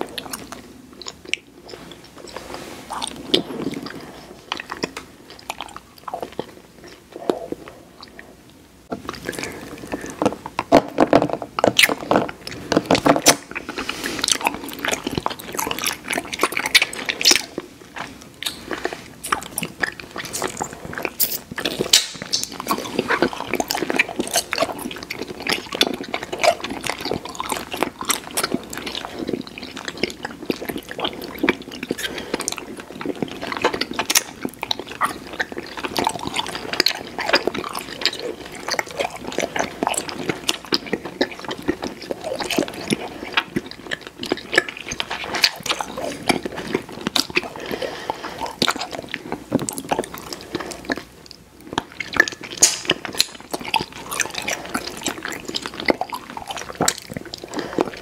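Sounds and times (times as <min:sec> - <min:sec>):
wet chewing of candy: 0:00.0 - 0:58.0.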